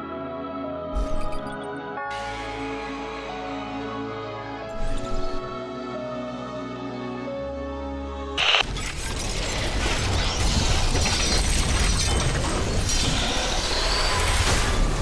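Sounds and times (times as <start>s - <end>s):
cinematic music: 0.0s - 15.0s.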